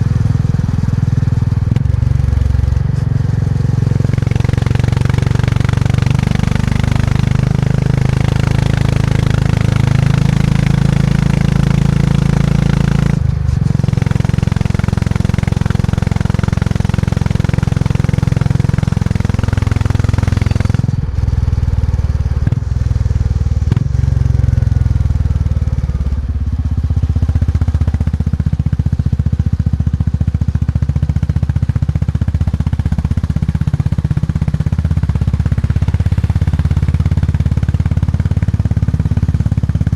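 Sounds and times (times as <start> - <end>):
motorcycle engine deep exhaust: 0.0 - 39.9.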